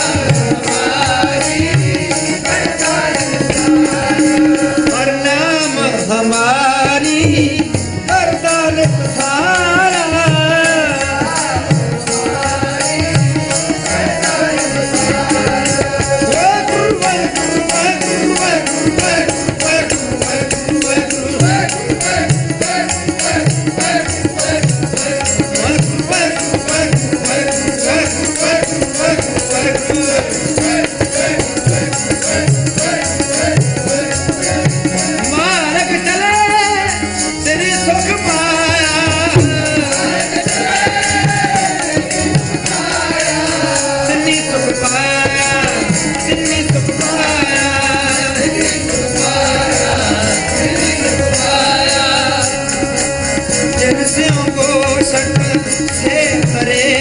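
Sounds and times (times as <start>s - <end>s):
harmonium playing chords: 0.0s - 57.0s
man singing: 0.0s - 57.0s
tabla drumming: 0.0s - 57.0s.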